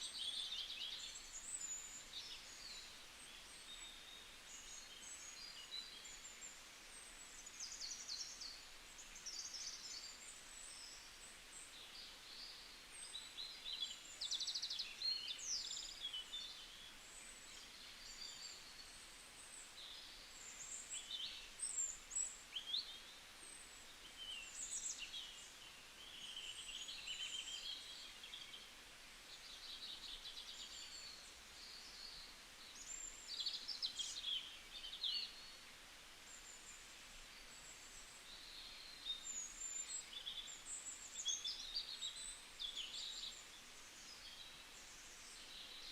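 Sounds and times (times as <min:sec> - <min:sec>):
faint steady hiss: 0:00.0 - 0:45.9
songbirds singing: 0:00.0 - 0:45.9.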